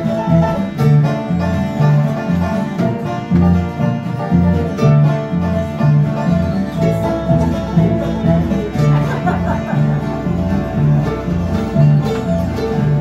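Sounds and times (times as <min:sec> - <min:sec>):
acoustic guitars playing bluegrass: 0:00.0 - 0:13.0
steady bass line: 0:00.0 - 0:13.0.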